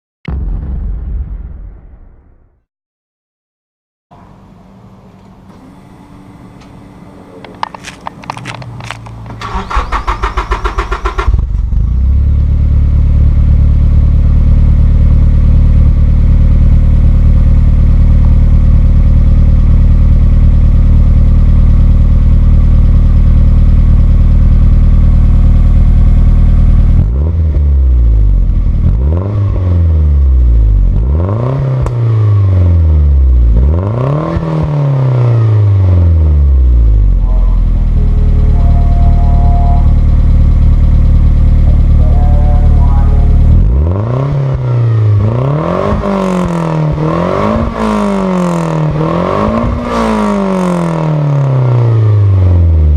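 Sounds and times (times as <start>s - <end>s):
car engine starting and idling: 4.2s - 52.9s
car engine revving: 7.8s - 22.3s, 23.0s - 52.9s.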